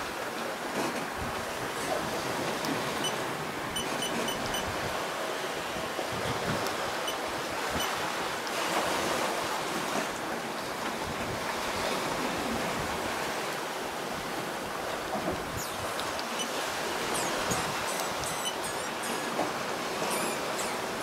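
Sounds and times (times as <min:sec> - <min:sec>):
sea rushing: 0:00.0 - 0:21.0.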